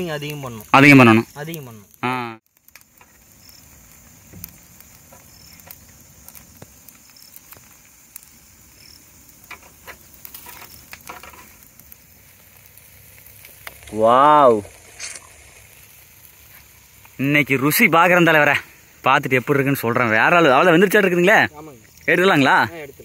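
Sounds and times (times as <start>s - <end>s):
chicken sizzling on a grill: 0.0s - 23.0s
crackles and sharp clicks: 0.0s - 23.0s.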